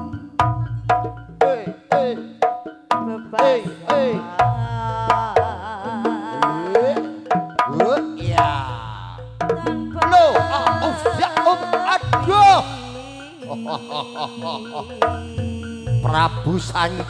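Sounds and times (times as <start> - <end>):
bending melody line: 0.0 - 17.0
gamelan music: 0.0 - 17.0
hand drum strokes: 0.0 - 17.0.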